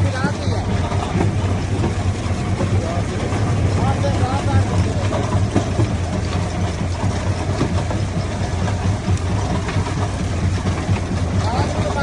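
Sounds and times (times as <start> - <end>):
crusher low drone: 0.0 - 12.0.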